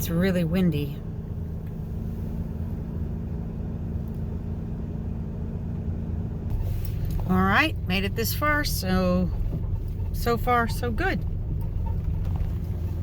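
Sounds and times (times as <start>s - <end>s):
road rumble: 0.0s - 13.0s
vehicle engine running: 0.0s - 13.0s.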